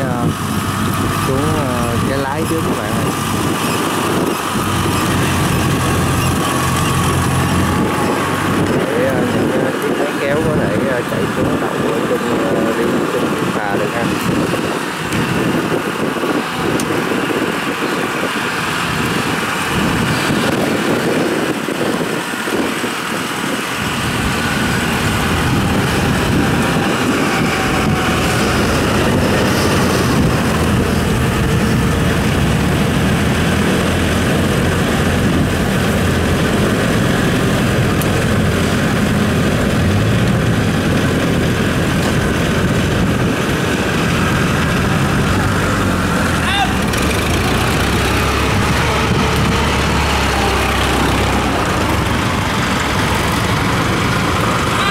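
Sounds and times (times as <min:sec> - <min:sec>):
combine harvester diesel engine: 0:00.0 - 0:54.9.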